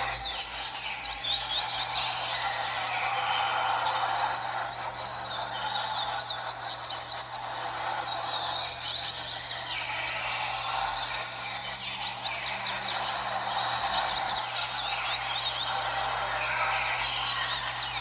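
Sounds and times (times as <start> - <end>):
birds chirping in chorus: 0.0 - 18.0
steady background noise: 0.0 - 18.0.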